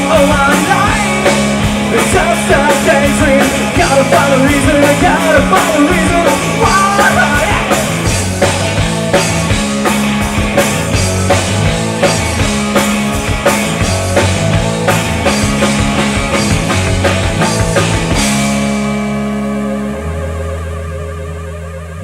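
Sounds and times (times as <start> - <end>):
drum kit beat: 0.0 - 19.1
bass line: 0.0 - 22.0
guitar: 0.0 - 22.0.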